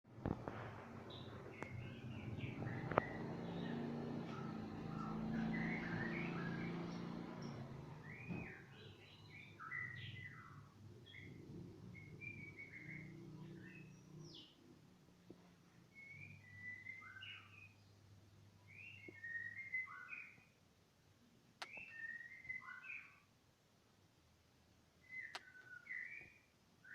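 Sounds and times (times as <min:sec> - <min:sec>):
lovebirds chirping: 0:00.2 - 0:14.7, 0:15.8 - 0:20.6, 0:21.6 - 0:23.3, 0:25.0 - 0:26.9.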